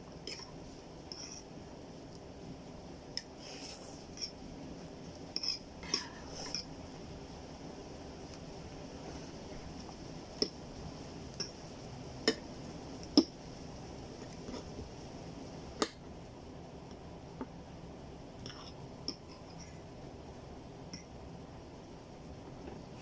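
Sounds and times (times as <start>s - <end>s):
steady low hiss: 0.0s - 23.0s.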